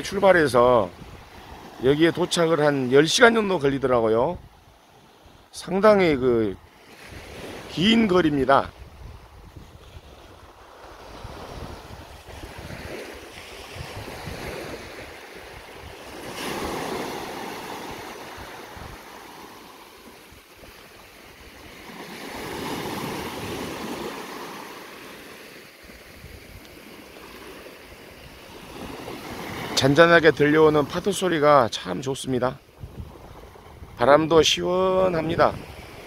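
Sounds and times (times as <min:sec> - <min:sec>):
small waves breaking on beach: 0:00.0 - 0:36.0.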